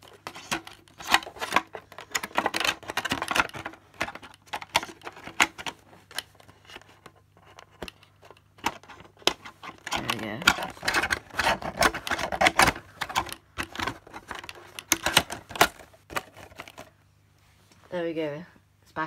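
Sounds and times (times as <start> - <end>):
plastic body shell clicking and clattering: 0.0 - 16.9.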